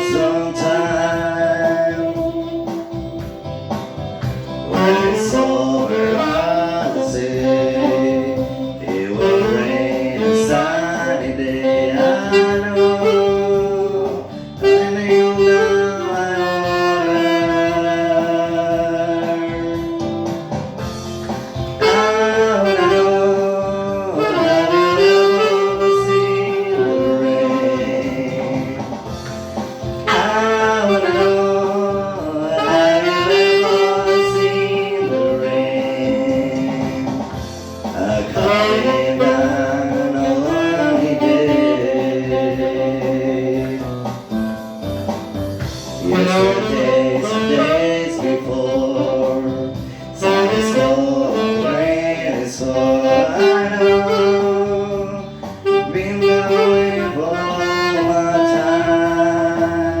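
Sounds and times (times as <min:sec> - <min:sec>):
backing band: 0:00.0 - 1:00.0
saxophone melody: 0:00.0 - 1:00.0.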